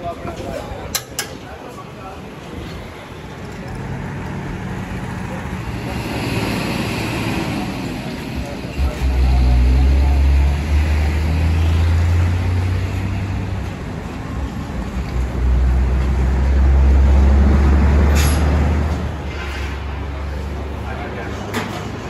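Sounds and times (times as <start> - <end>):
heavy traffic engine rumble: 0.0 - 22.0
street noise: 0.0 - 22.0.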